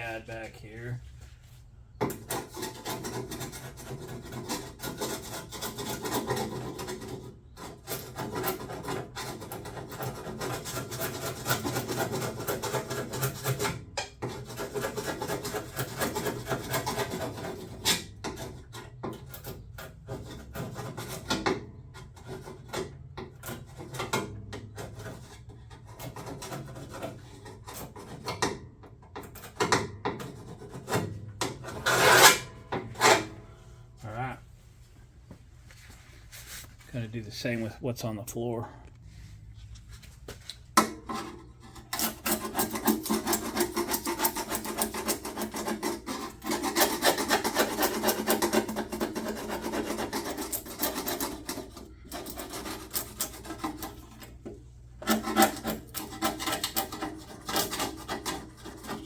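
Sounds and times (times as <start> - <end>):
scraper rasping rust off metal: 2.0 - 33.4, 40.8 - 59.0.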